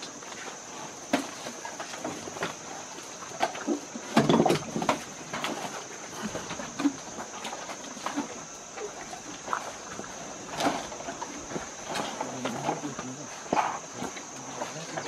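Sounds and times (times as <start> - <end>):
elephant trunks rustling food: 0.0 - 15.0.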